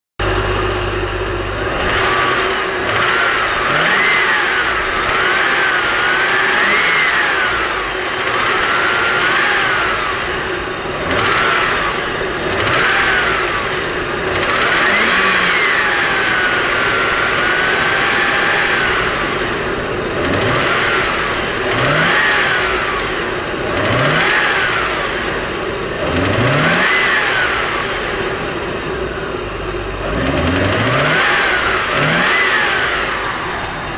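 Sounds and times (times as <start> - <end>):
engine revving: 0.2 - 33.9
engine whine: 0.2 - 33.9.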